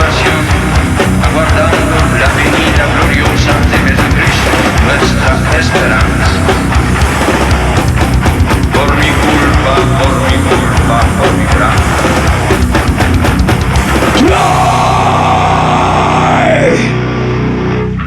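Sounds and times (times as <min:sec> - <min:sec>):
fast drum hits: 0:00.0 - 0:15.2
distorted guitar chord ringing: 0:00.0 - 0:18.0
heavy metal band playing: 0:00.0 - 0:18.0.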